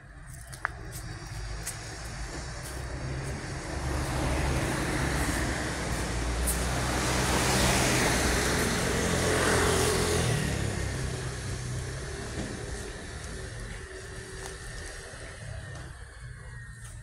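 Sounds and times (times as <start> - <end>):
vehicles passing on road: 0.0 - 17.0.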